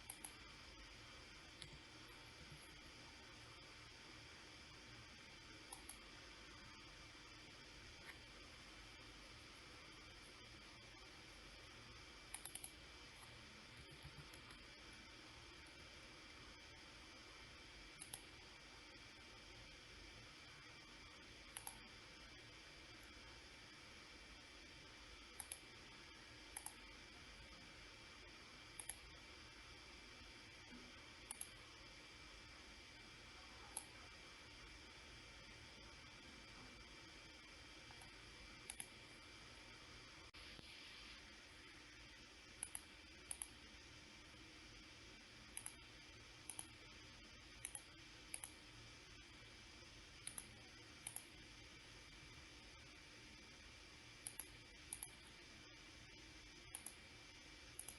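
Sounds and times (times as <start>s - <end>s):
faint steady hiss: 0.0s - 57.9s.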